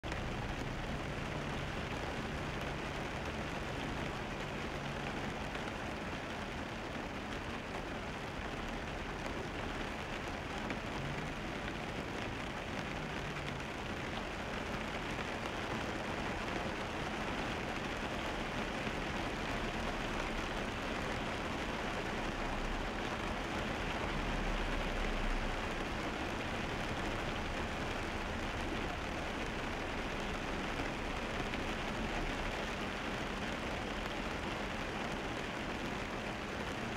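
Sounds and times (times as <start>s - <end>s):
tyres hissing on wet road: 0.1s - 36.9s.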